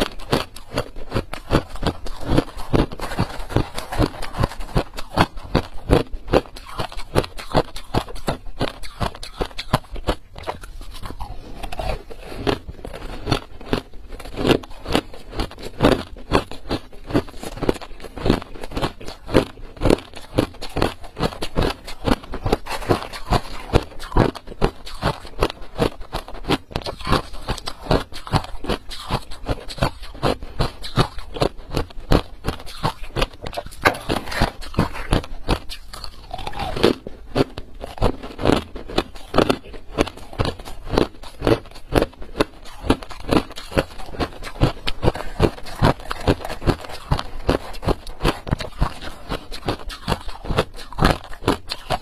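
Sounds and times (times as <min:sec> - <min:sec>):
ice being chewed: 0:00.0 - 0:52.0.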